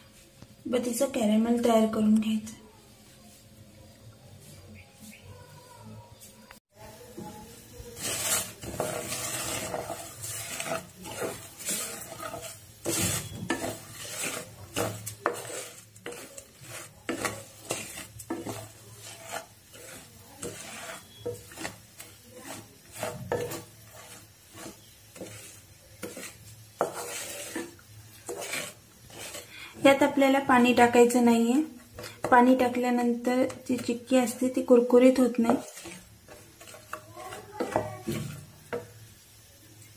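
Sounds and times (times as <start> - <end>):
wooden spatula scraping sugar in pan: 4.3 - 39.9.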